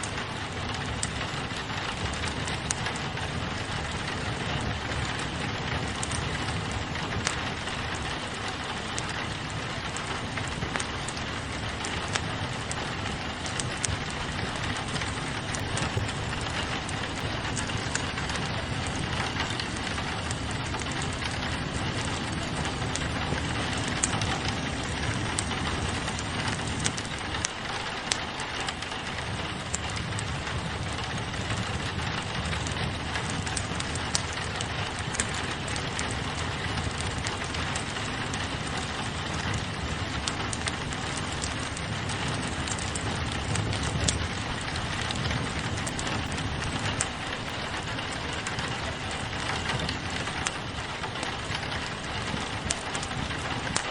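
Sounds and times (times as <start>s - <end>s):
rain pattering on a window: 0.0s - 53.9s
wood fire crackling: 0.0s - 53.9s.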